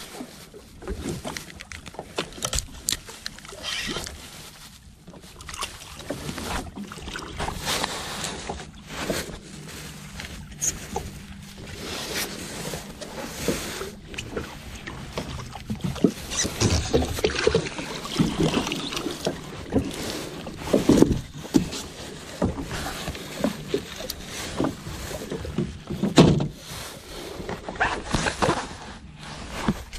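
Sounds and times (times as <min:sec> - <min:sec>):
water splashing against hull: 0:00.0 - 0:29.9.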